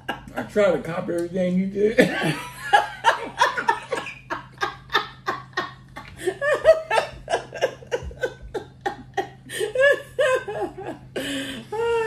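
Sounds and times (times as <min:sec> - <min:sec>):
man and woman laughing: 0:02.0 - 0:12.0.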